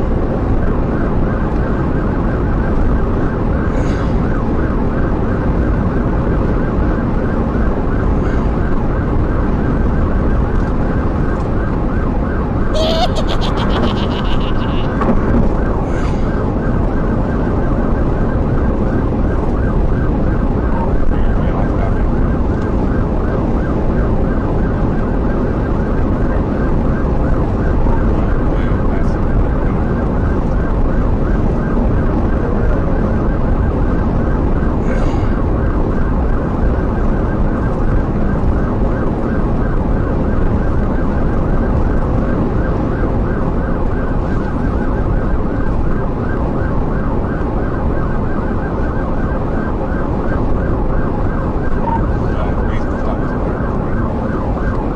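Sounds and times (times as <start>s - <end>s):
police siren: 0.0s - 54.9s
wind and road noise rumble: 0.0s - 54.9s.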